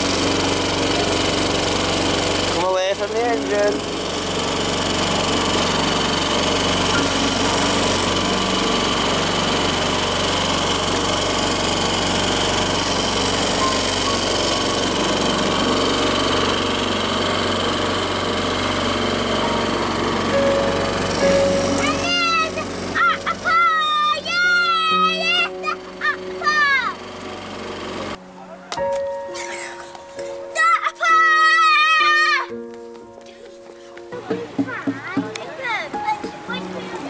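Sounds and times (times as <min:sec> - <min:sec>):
outboard motor running: 0:00.0 - 0:28.2, 0:33.7 - 0:37.0.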